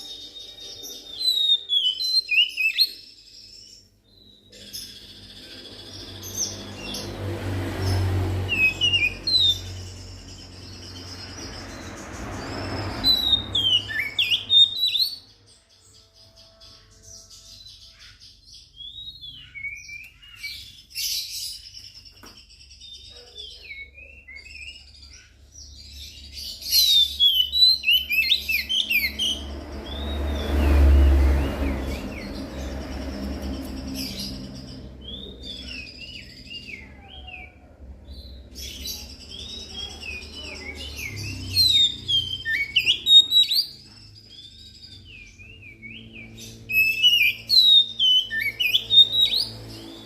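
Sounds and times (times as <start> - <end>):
magpie-robin singing: 0.0 - 7.2, 7.8 - 50.0.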